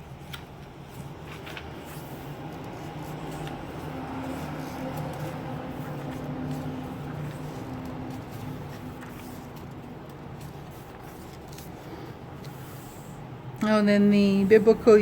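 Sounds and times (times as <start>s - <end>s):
pages turning and rustling: 0.0s - 13.2s.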